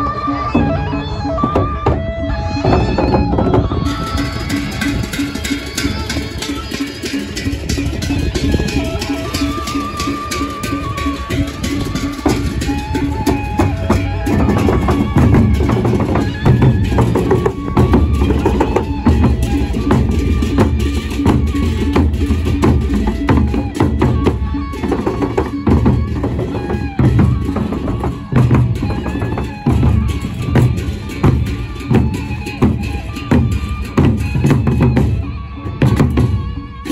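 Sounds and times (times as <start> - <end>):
barrel drums beaten with sticks: 1.4 - 36.6.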